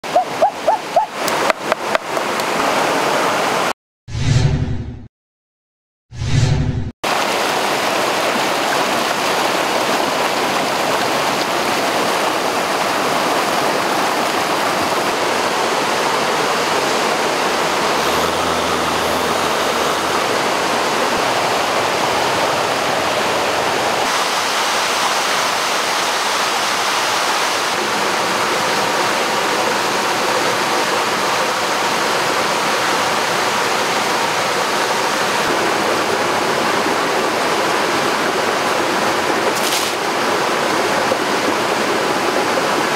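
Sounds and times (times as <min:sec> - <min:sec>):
water rushing over rocks: 0:00.0 - 0:03.7, 0:07.0 - 0:42.9.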